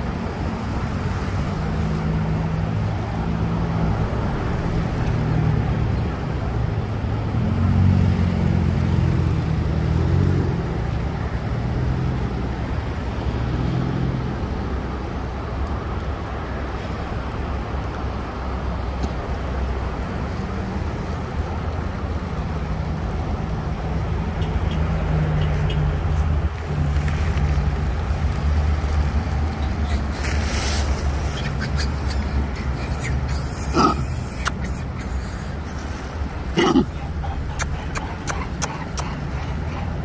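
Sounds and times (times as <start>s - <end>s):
motor traffic rumble: 0.0s - 40.0s.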